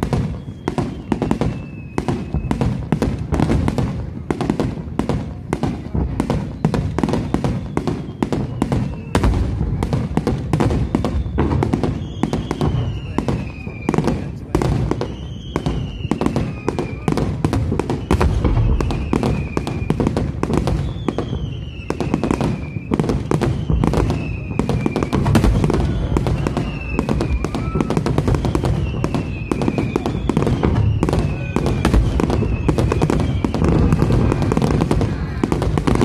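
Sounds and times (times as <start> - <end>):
fireworks bursts and crackling bangs: 0.0 - 36.0.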